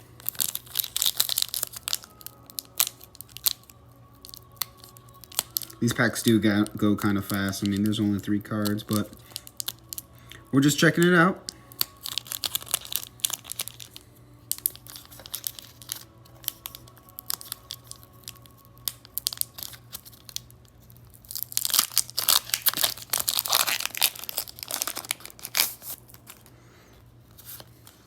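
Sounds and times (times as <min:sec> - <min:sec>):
foil wrapper tearing: 0:00.0 - 0:26.5, 0:27.3 - 0:28.0
foil wrapper crinkling: 0:00.0 - 0:28.0.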